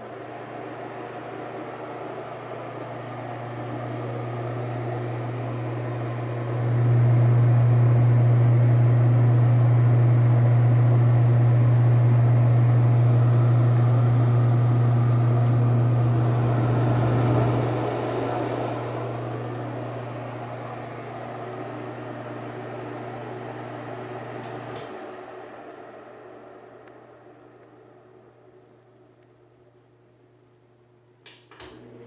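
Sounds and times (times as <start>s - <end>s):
fan air rushing: 0.0s - 28.5s
exhaust fan humming: 0.0s - 30.6s.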